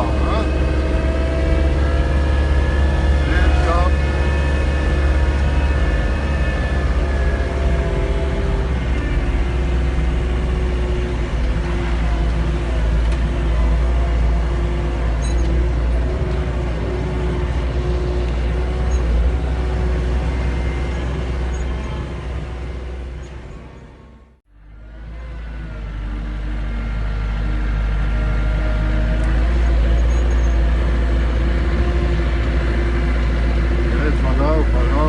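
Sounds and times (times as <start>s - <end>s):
diesel engine droning: 0.0s - 35.0s
wavering hum: 0.0s - 35.0s.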